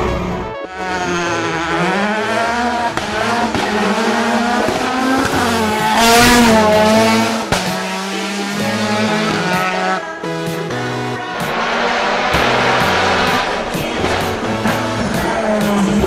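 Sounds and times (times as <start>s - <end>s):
racing car engine revving hard: 0.0s - 10.0s, 11.2s - 16.0s.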